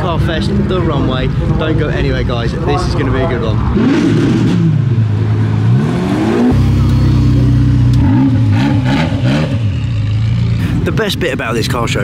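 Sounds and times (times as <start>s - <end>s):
car engine revving: 0.1s - 11.2s.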